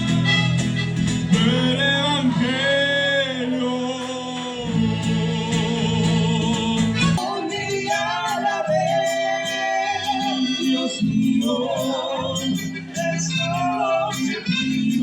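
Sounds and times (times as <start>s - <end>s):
man singing with vibrato: 1.2s - 15.0s.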